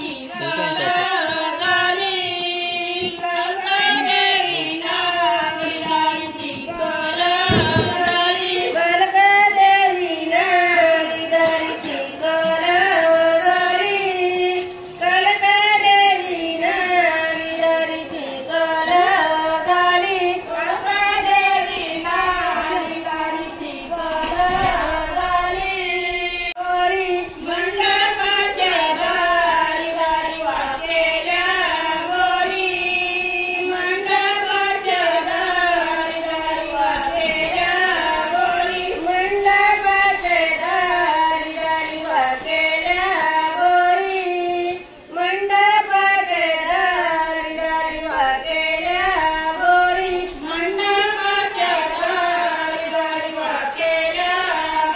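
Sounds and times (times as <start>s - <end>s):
women singing a work song: 0.0s - 54.9s.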